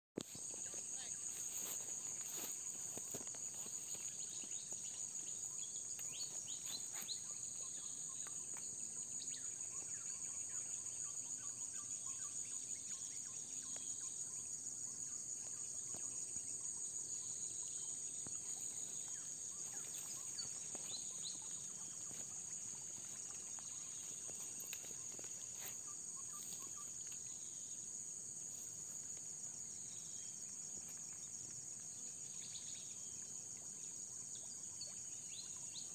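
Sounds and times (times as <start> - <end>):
insects trilling: 0.2 - 35.9.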